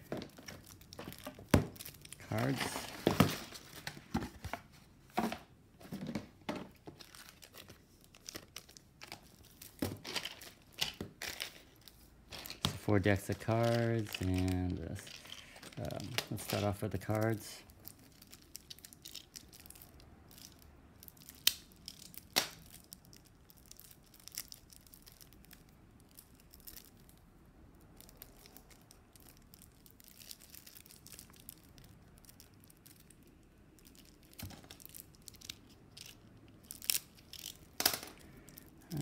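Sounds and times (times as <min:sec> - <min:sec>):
shrink wrap crinkling and tearing: 0:00.0 - 0:04.8, 0:06.7 - 0:39.0.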